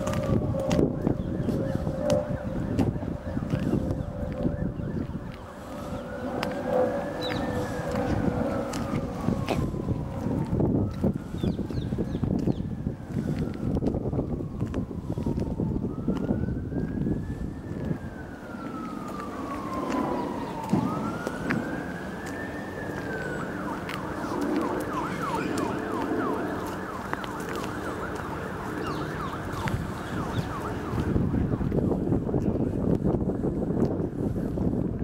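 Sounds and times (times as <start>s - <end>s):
emergency vehicle siren: 0.0s - 35.0s.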